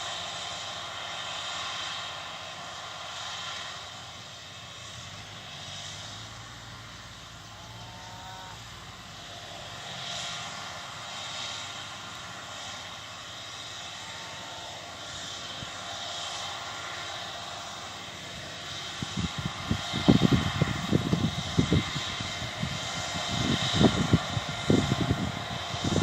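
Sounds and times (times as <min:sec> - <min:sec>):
distant combine harvester drone: 0:00.0 - 0:26.0.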